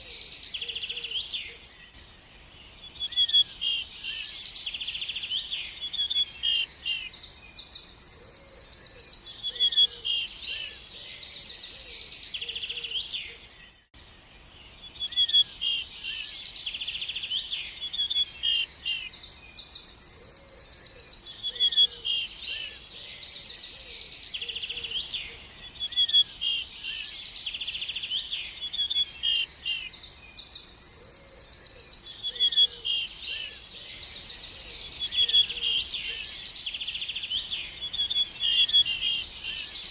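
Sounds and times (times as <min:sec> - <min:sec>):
songbird trilling and chirping: 0:00.0 - 0:13.8, 0:14.5 - 0:39.9.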